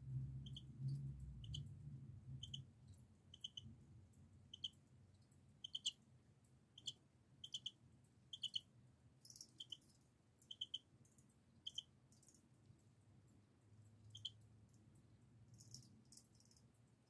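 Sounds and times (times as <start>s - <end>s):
cricket chirping: 0.0s - 13.0s, 13.9s - 17.0s.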